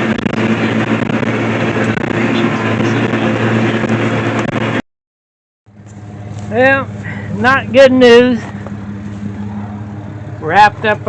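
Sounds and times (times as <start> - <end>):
round baler working: 0.0 - 4.8, 5.7 - 11.0
tractor engine running: 0.0 - 4.8, 5.7 - 11.0.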